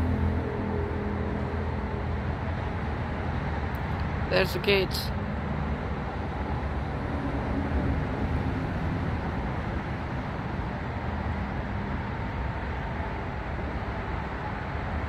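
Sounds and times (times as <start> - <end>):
city traffic noise: 0.0 - 15.0
diesel locomotive rumbling: 0.0 - 15.0
faint engine hum: 0.0 - 15.0.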